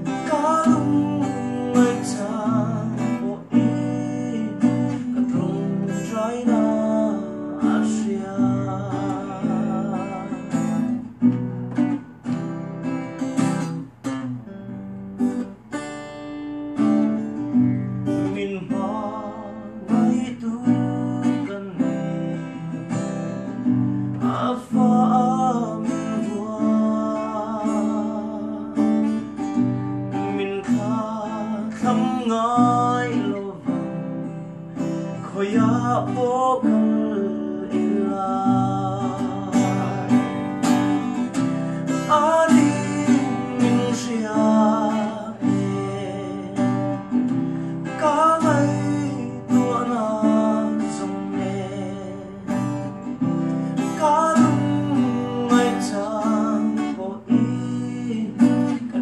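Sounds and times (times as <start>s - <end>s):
man singing: 0.0s - 11.4s, 16.7s - 59.0s
acoustic guitar strumming: 0.0s - 59.0s.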